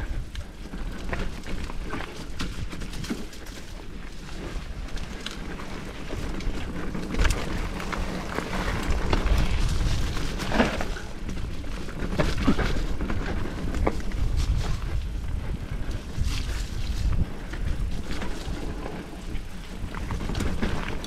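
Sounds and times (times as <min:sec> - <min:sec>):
bike tyre noise: 0:00.0 - 0:21.0
wind buffeting microphone: 0:00.0 - 0:21.0.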